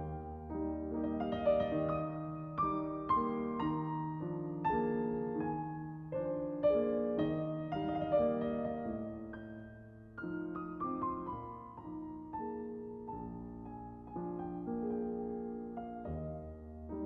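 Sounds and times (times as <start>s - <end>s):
soft slow piano music: 0.0s - 17.0s.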